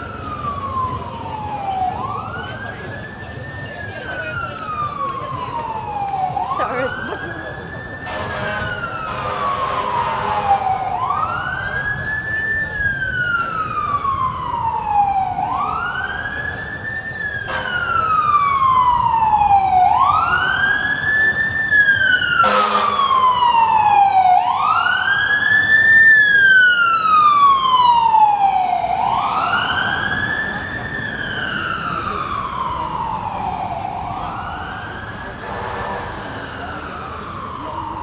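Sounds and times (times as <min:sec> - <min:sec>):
emergency siren wailing: 0:00.0 - 0:38.0.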